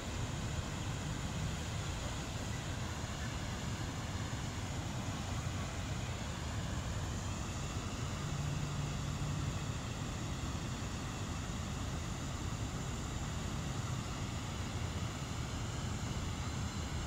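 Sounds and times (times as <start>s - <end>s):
water rushing over dam spillway: 0.0s - 17.0s.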